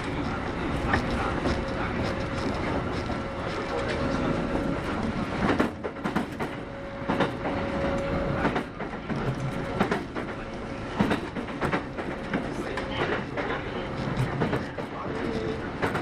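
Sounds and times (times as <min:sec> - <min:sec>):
train rumbling inside car: 0:00.0 - 0:16.0
wheels clacking over rail joints: 0:00.0 - 0:16.0.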